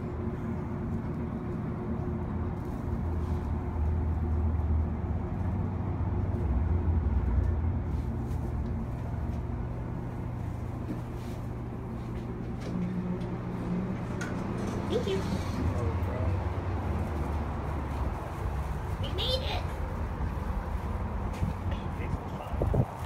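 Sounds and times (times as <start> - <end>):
elevator machine hum: 0.0 - 23.0.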